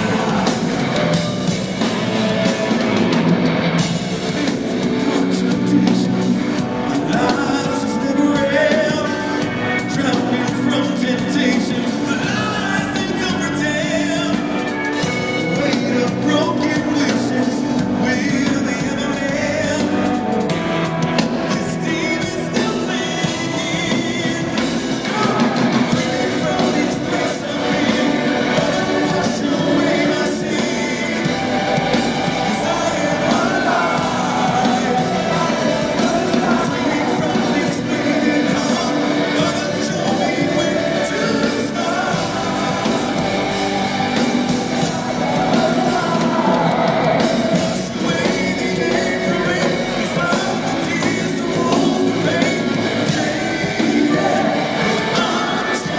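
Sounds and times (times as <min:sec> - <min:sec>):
male lead singer: 0:00.0 - 0:55.9
rock band playing live: 0:00.0 - 0:55.9.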